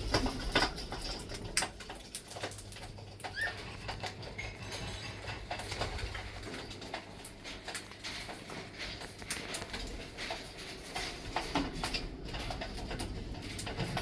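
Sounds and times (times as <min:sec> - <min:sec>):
parrots clicking and scratching: 0:00.0 - 0:14.0.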